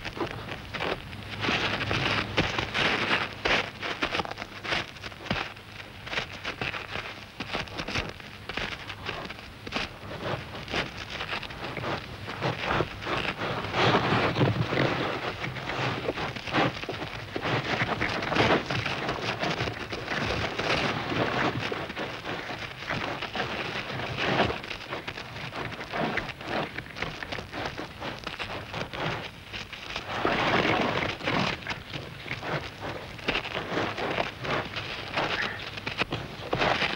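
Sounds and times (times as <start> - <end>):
dense crackling and rustling: 0.0 - 36.9.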